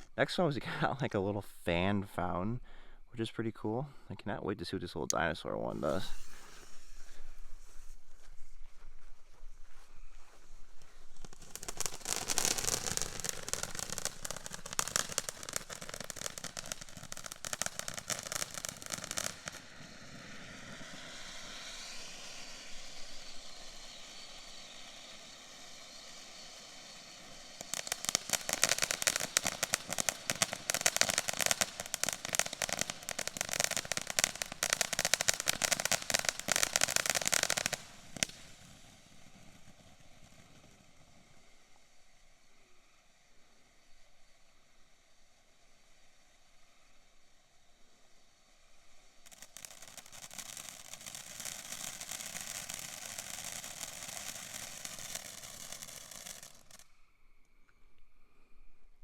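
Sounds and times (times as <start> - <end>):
firework hissing: 0.0 - 1.0, 5.2 - 57.0
firework crackling: 0.0 - 3.4, 4.8 - 57.0.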